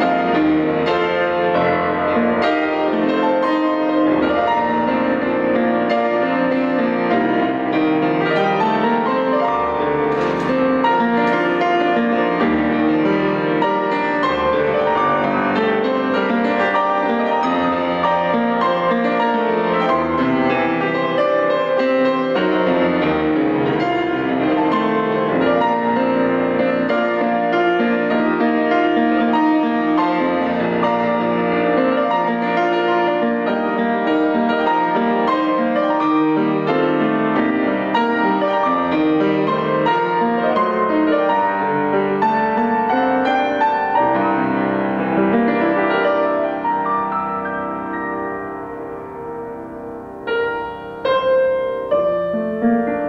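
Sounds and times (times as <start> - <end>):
solo grand piano: 0.0 - 53.0.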